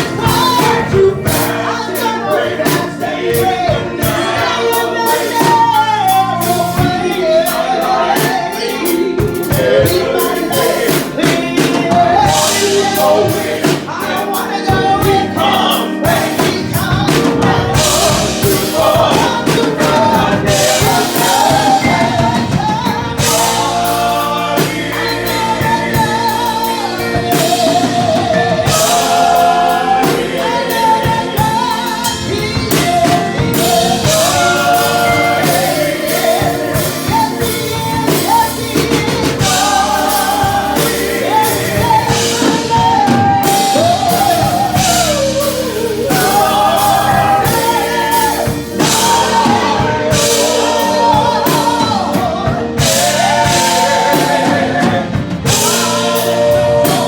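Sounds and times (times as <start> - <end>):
live band with drum kit: 0.0 - 57.0
woman singing gospel: 0.0 - 57.0.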